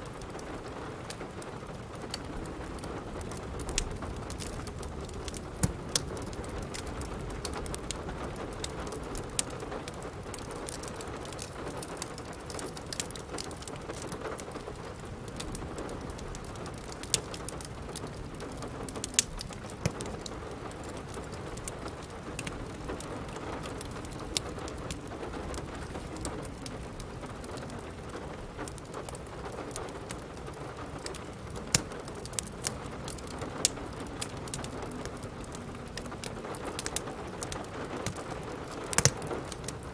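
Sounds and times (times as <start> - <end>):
rain falling: 0.0 - 39.9
wood fire crackling: 0.0 - 39.9.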